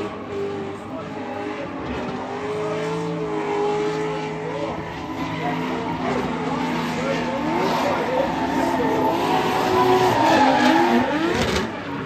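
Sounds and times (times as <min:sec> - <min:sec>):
car engine at high revs: 0:00.0 - 0:12.0
tyres skidding: 0:00.0 - 0:12.0.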